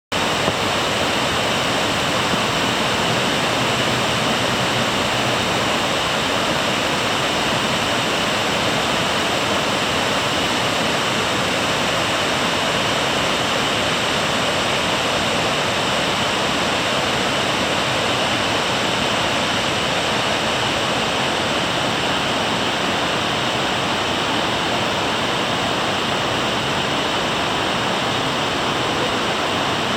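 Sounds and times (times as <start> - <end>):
water rushing down rock face: 0.1 - 29.9.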